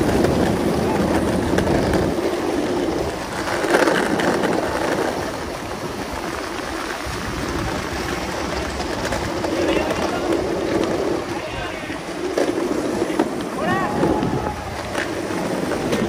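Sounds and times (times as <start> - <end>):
longboard wheels rolling on pavement: 0.0 - 16.0.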